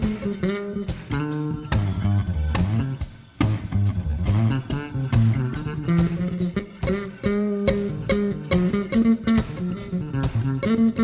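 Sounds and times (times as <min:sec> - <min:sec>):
bass guitar notes: 0:00.0 - 0:11.0
electric guitar lines: 0:00.0 - 0:11.0.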